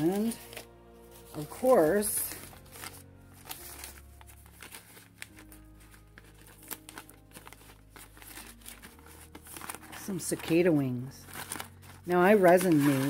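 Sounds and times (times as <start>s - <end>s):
paper envelope crinkling: 0.0s - 13.0s.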